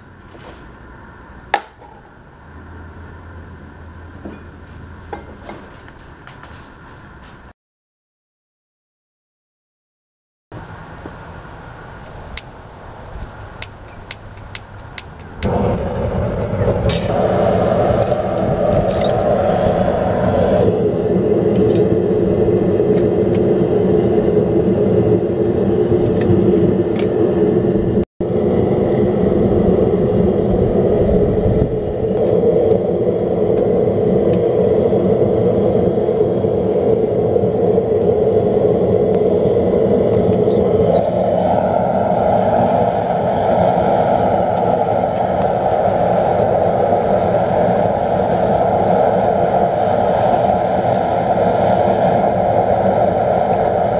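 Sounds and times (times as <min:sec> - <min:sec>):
gas burner rushing: 0:10.6 - 0:53.9.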